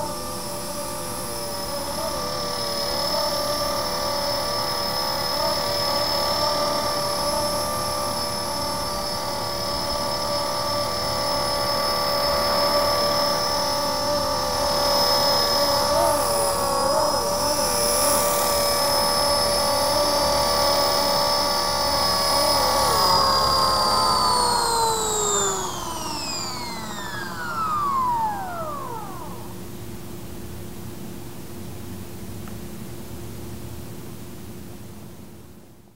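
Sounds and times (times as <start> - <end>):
toy helicopter rotor whine: 0.0 - 30.0.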